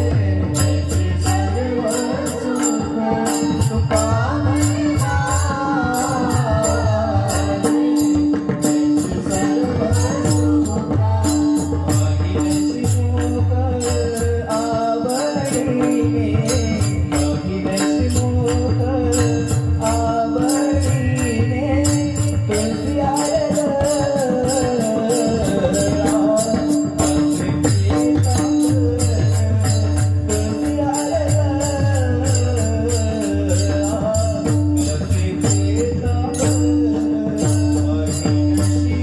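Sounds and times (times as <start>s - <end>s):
drum: 0.0s - 39.0s
metal hand cymbals: 0.0s - 39.0s.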